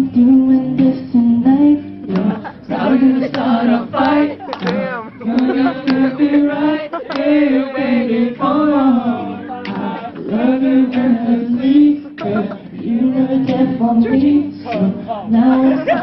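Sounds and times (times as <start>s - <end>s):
vocal group singing in harmony: 0.0s - 16.0s.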